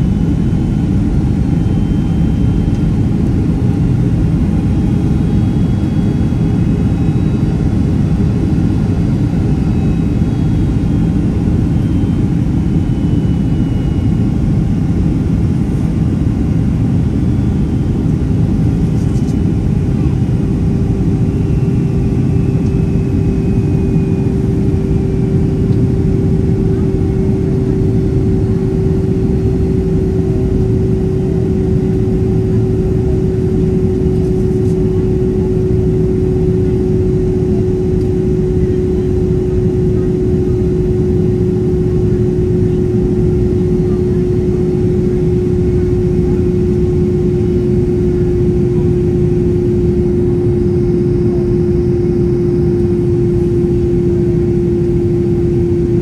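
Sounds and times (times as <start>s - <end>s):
airplane cabin rumble: 0.0s - 56.0s
steady hum: 0.0s - 56.0s.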